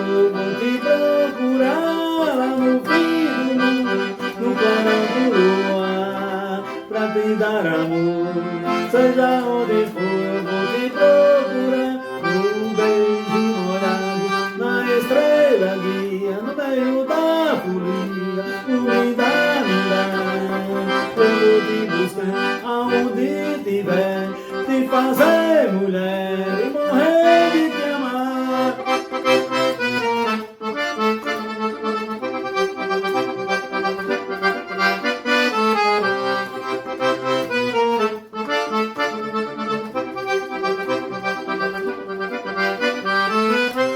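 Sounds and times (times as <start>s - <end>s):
accordion melody: 0.0s - 43.9s.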